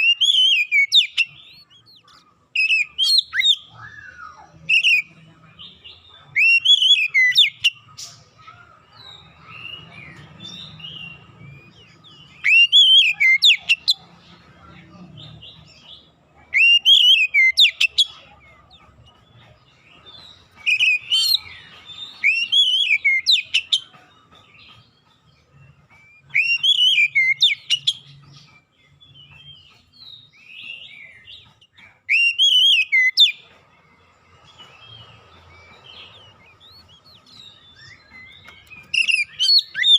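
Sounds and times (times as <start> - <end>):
bird whistled song: 0.0 - 5.2, 5.9 - 14.0, 16.4 - 18.3, 20.0 - 33.4, 34.4 - 39.9.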